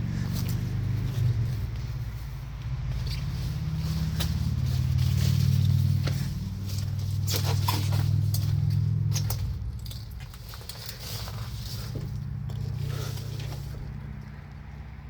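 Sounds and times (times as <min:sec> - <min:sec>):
low engine hum: 0:00.0 - 0:15.0
light clicks and crackles: 0:02.6 - 0:14.7.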